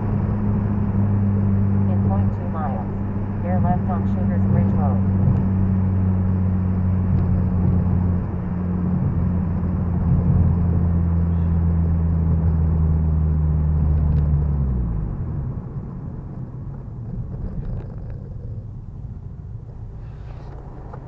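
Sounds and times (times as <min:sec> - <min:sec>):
car engine droning: 0:00.0 - 0:21.0
tyre and road noise: 0:00.0 - 0:21.0.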